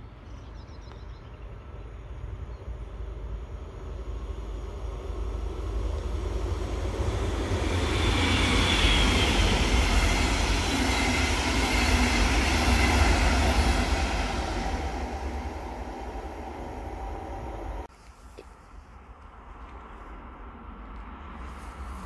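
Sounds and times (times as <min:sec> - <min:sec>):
train passing: 0:01.4 - 0:17.9, 0:19.3 - 0:22.0.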